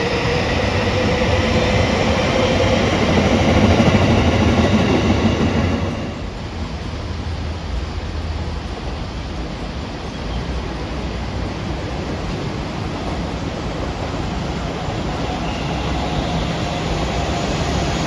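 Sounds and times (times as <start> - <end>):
train passing with rumble: 0.0 - 18.0.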